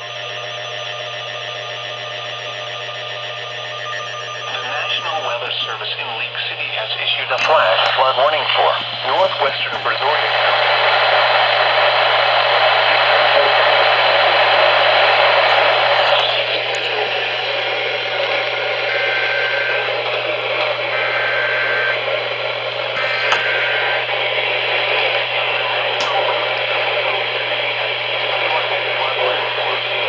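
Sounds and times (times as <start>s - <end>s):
radio static hiss: 3.9s - 30.0s.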